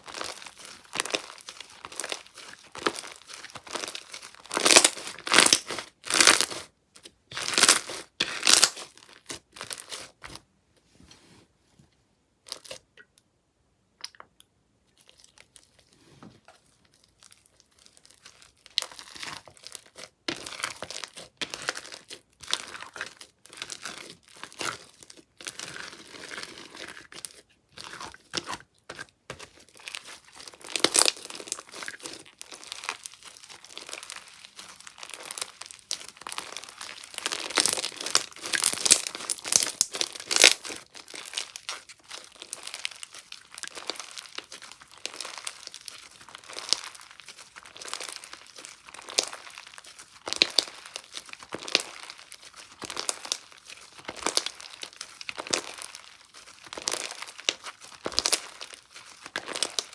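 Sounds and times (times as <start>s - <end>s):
slime crackling and popping: 0.0s - 10.3s, 17.1s - 59.9s.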